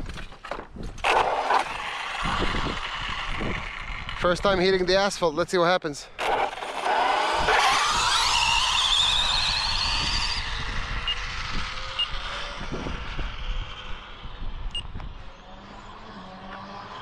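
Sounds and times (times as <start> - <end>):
rc car motor whine: 0.1 - 5.0, 6.1 - 17.0.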